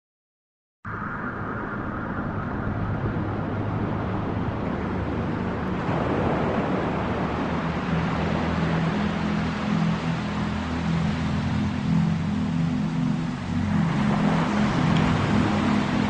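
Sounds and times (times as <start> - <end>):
low hum: 0.9 - 16.0
steady rushing noise: 0.9 - 16.0.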